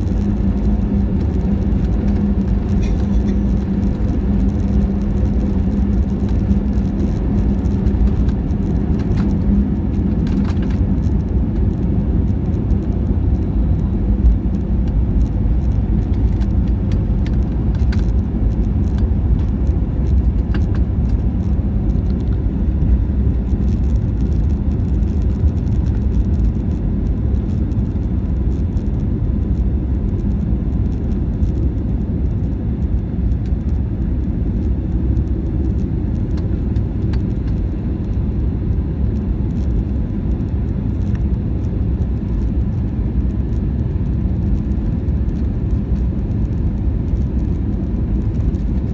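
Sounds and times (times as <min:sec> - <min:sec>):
jet engines rumbling: 0:00.0 - 0:48.9
low hum: 0:00.0 - 0:48.9.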